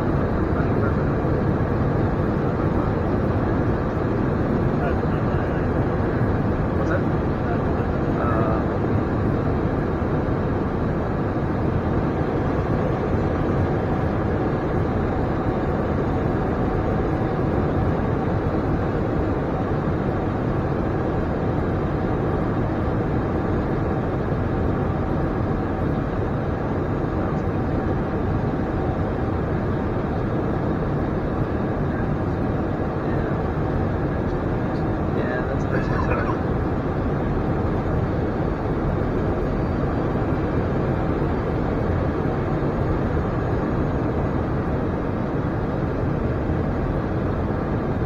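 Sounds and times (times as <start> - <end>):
rushing cockpit flight noise: 0.0 - 48.0.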